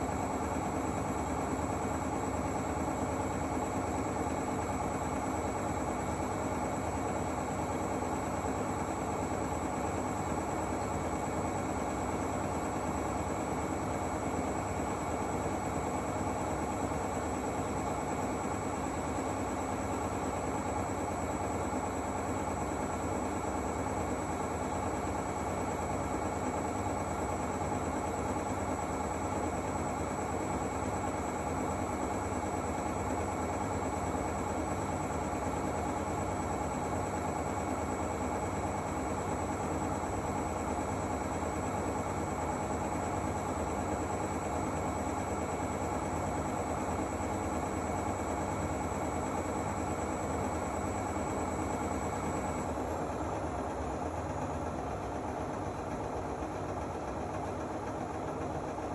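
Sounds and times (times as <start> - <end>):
washing machine motor humming: 7.4 - 58.9.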